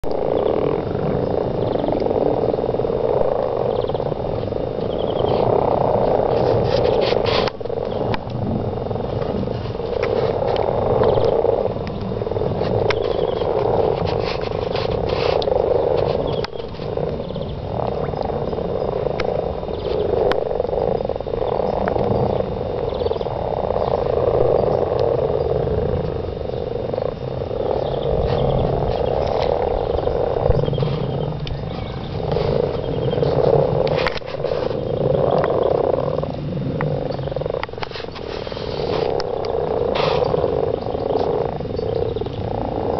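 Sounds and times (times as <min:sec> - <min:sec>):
chorus of frogs croaking: 0:00.0 - 0:42.9.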